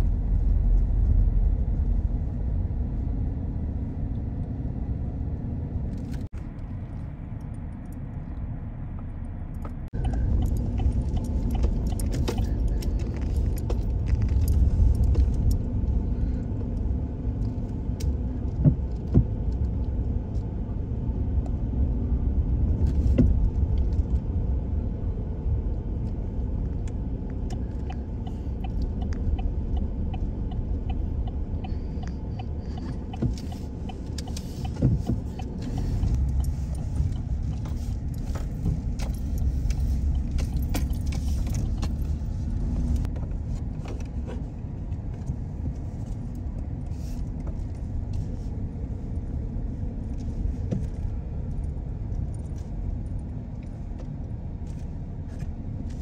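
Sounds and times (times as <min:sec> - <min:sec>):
road and engine rumble in car: 0:00.0 - 0:56.0.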